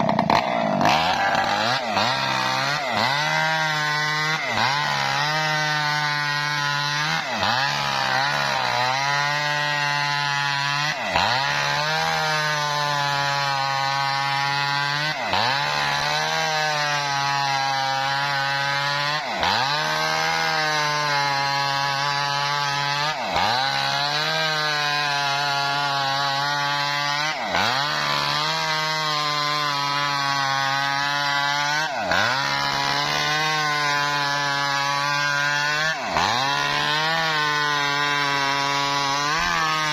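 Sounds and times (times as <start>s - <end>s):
engine-driven saw cutting wood: 0.0s - 39.9s.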